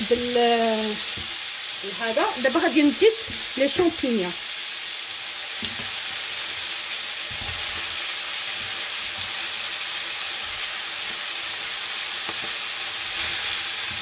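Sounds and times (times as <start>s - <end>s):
food sizzling in skillet: 0.0s - 14.0s.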